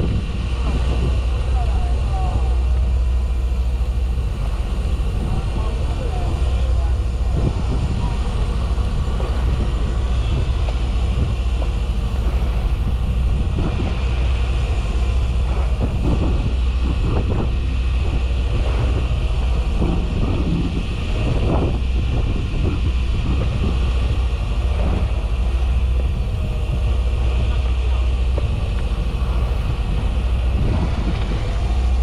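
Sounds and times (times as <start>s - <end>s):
boat engine humming: 0.0s - 32.0s
wind noise on microphone: 0.0s - 32.0s.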